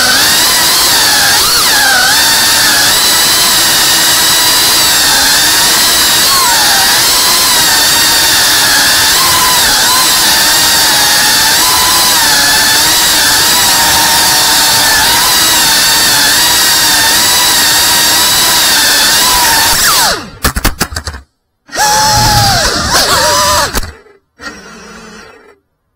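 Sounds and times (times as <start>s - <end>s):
drone motors whining: 0.0s - 20.4s, 21.7s - 25.6s.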